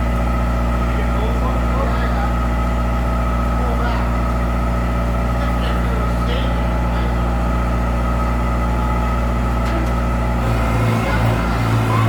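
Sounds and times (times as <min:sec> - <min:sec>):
heavy engine humming: 0:00.0 - 0:12.0.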